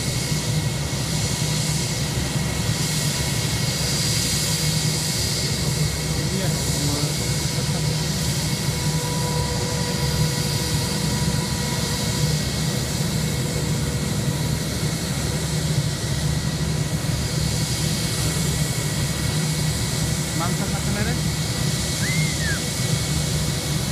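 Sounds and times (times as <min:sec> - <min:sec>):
jet engines running: 0:00.0 - 0:23.9.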